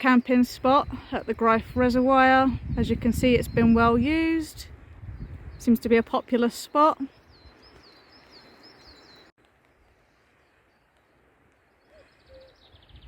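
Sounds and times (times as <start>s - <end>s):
songbird chirping: 0.0s - 9.4s, 10.0s - 13.0s.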